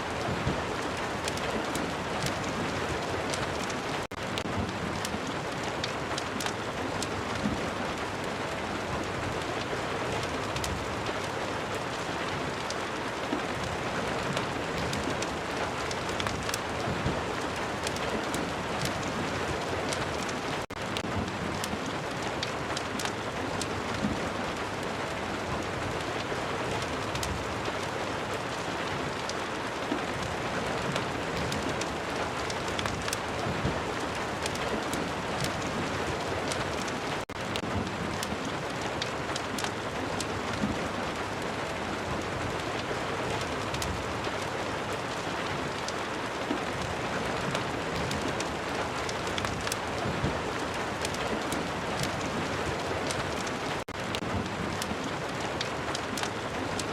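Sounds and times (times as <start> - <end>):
steady rain: 0.0 - 56.9
wood fire crackling: 0.0 - 56.9.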